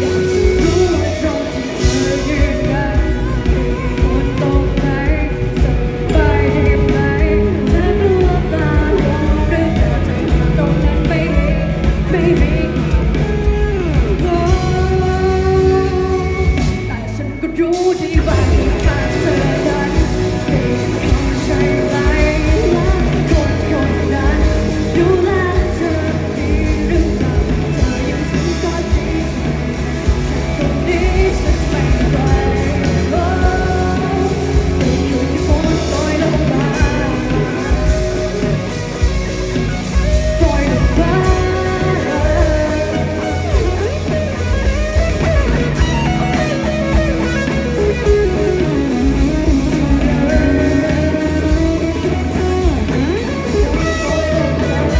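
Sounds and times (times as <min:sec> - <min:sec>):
live rock band with singer: 0:00.0 - 0:54.9.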